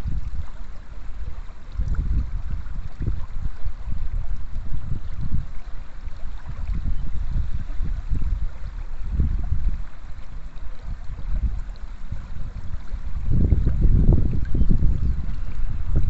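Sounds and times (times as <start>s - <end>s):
low uneven rumble: 0.0s - 16.0s
river flowing: 0.0s - 16.0s.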